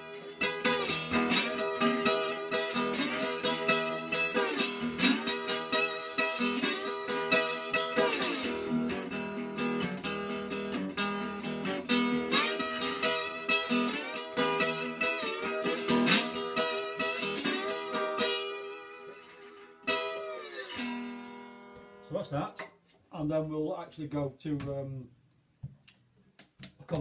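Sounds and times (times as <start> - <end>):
acoustic guitar picking and strumming: 0.0 - 22.9.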